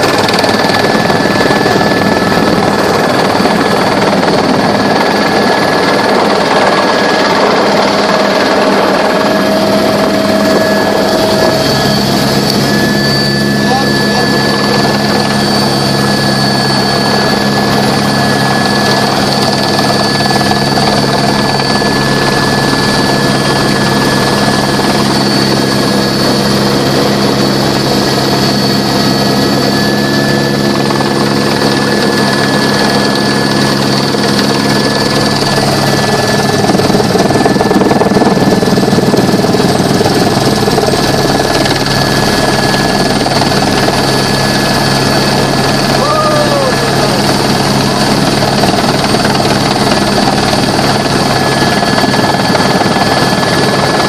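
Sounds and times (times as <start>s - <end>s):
helicopter turbine whine: 0.0s - 54.0s
rotor and gearbox drone: 0.0s - 54.0s.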